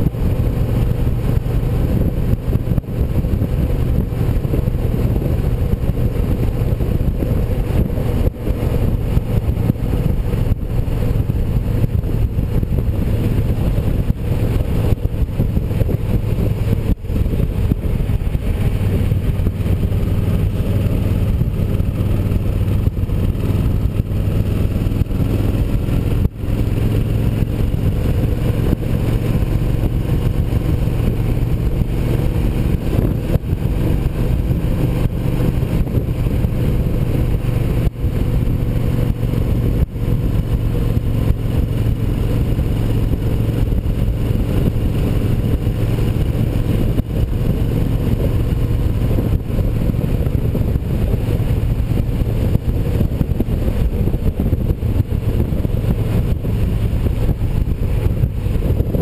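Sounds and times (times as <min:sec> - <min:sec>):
motorcycle engine running: 0:00.0 - 0:59.0
rushing wind: 0:00.0 - 0:59.0.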